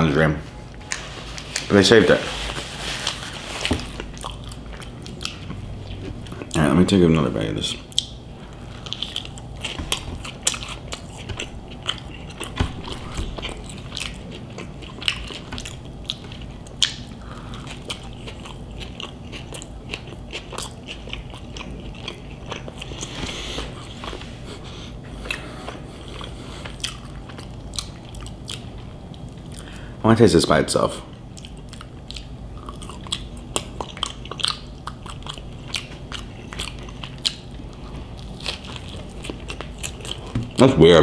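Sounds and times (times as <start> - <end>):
person biting and chewing food: 3.0 - 6.6, 7.8 - 29.7, 31.3 - 40.6.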